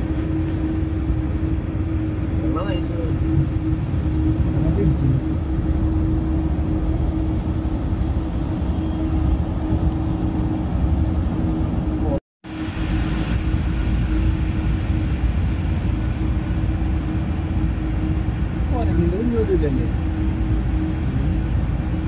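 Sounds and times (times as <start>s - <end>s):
constant hum: 0.0s - 22.0s
train wheels rumbling on track: 0.0s - 22.0s.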